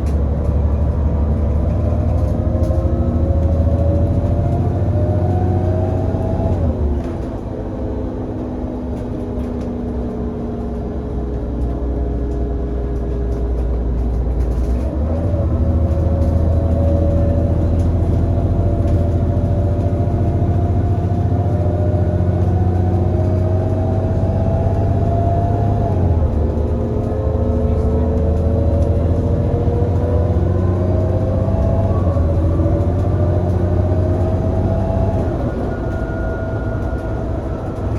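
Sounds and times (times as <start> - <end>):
bus engine pulling under load: 0.0 - 37.9
rising engine whine: 0.0 - 37.9.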